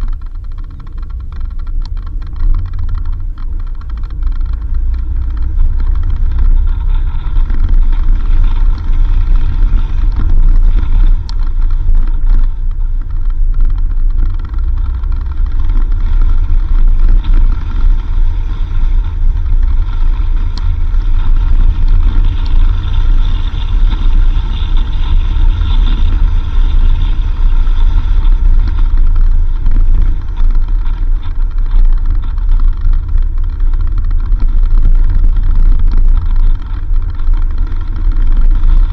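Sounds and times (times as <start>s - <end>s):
faint clicks: 0.0s - 38.9s
vehicle engine and tyres rumbling: 0.0s - 38.9s.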